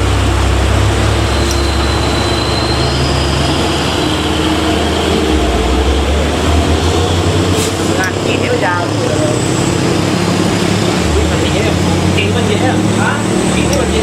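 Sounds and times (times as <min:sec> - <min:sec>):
heavy vehicle engine droning: 0:00.0 - 0:14.0
road noise: 0:00.0 - 0:14.0.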